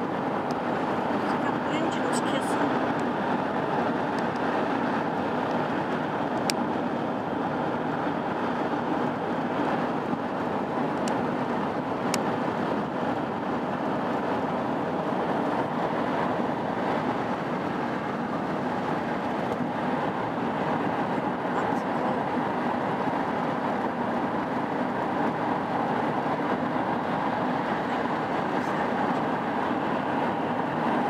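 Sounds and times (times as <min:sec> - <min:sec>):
road and wind noise in vehicle: 0:00.0 - 0:31.0.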